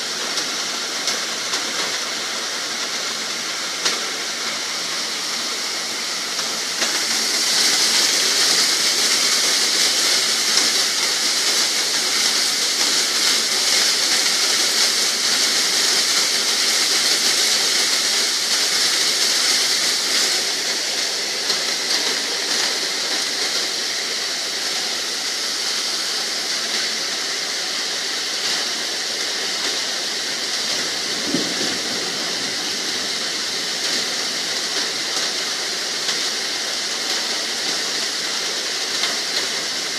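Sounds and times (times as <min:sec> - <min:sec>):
rain falling in wind: 0:00.0 - 0:39.9.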